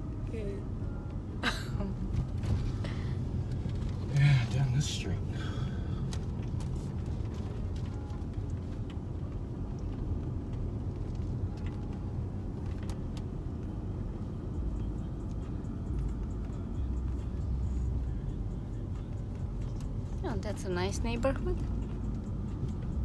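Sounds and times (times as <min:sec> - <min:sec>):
engine and road noise in car: 0:00.0 - 0:23.0.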